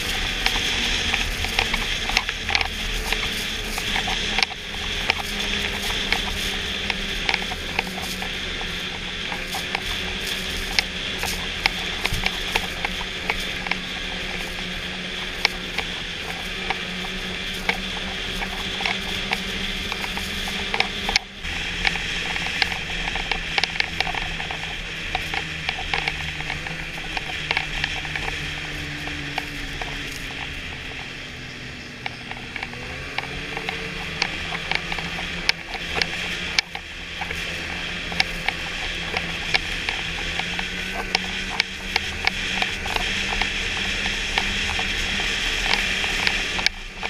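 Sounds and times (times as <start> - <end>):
snowmobile engine drone: 0.0 - 47.0.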